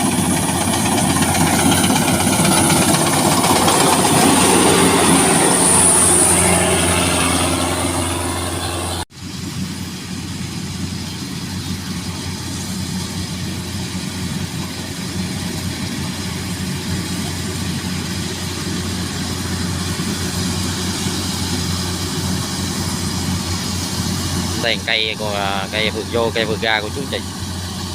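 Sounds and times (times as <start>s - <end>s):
combine harvester engine running: 0.0s - 27.9s.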